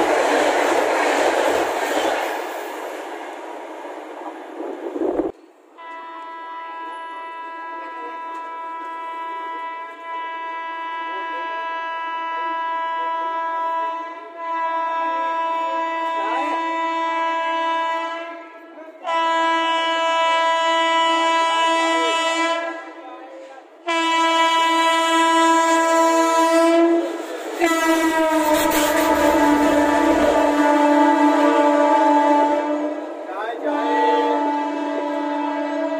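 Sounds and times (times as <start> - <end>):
train passing with wheel clatter: 0.0 - 11.1, 11.8 - 35.9
locomotive horn blasts: 5.8 - 23.0, 23.8 - 35.9.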